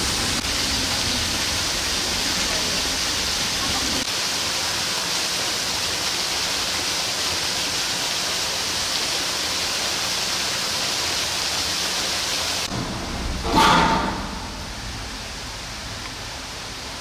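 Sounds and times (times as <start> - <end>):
rushing water hiss: 0.0 - 17.0.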